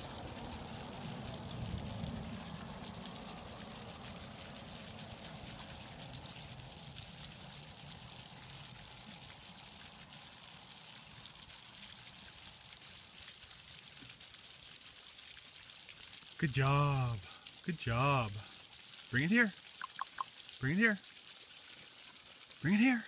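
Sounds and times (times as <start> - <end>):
dog wading through water: 0.0 - 16.4, 19.6 - 22.6.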